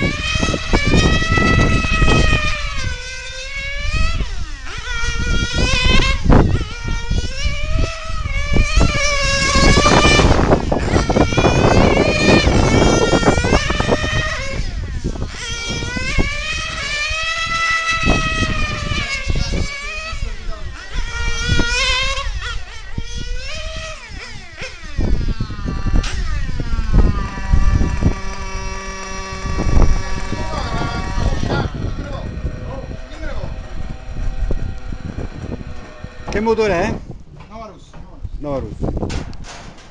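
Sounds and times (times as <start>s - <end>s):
rc car engine screaming: 0.0s - 37.0s.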